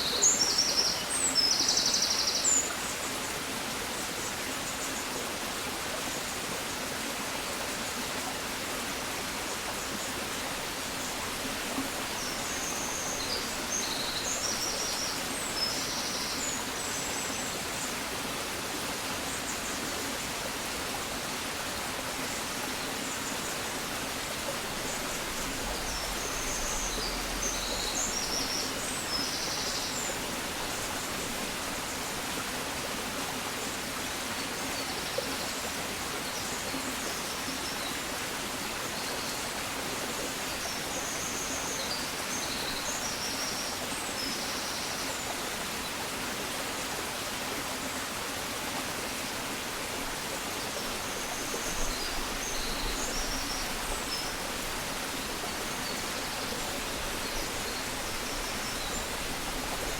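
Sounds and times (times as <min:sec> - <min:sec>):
rushing stream: 0:00.0 - 0:59.9.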